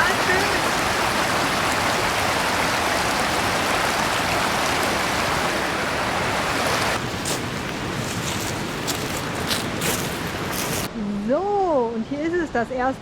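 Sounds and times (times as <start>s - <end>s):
stream rushing over rocks: 0.0s - 10.9s.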